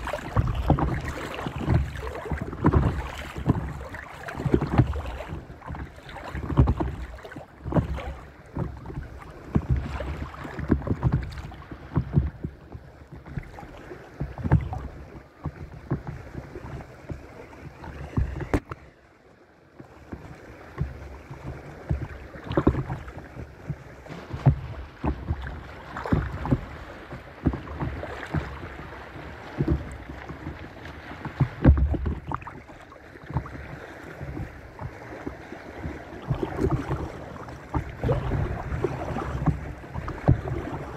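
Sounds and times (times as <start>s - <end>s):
wind rumbling on microphone: 0.0s - 19.0s, 20.1s - 40.9s
paddle strokes splashing: 0.0s - 40.9s
small waves lapping against board: 0.0s - 40.9s.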